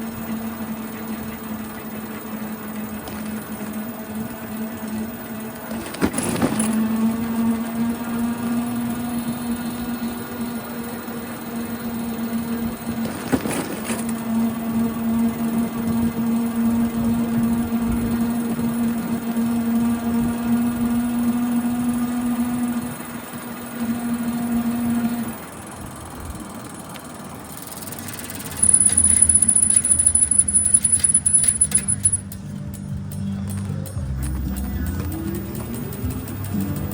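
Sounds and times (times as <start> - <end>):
bicycle hum: 0.0 - 36.9
high-pitched squeal with fast ticking: 0.0 - 36.9.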